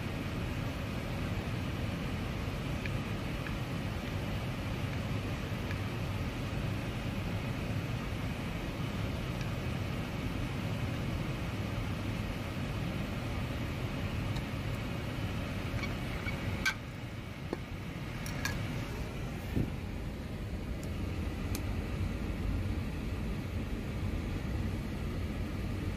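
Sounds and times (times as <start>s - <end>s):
ventilation fan rush: 0.0s - 25.9s.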